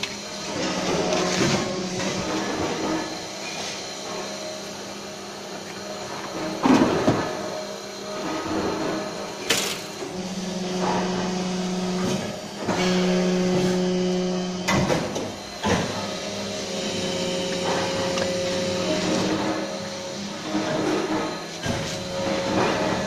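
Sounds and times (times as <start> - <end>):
injection molding machine hum: 0.0 - 23.0.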